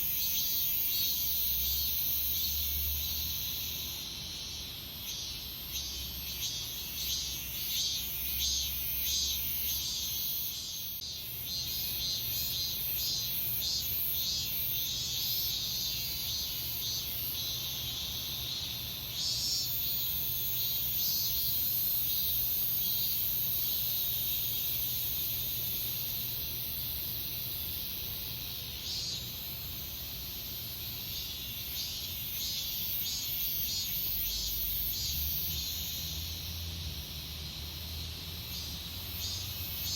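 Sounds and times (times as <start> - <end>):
cicadas pulsing calls: 0.0 - 39.9.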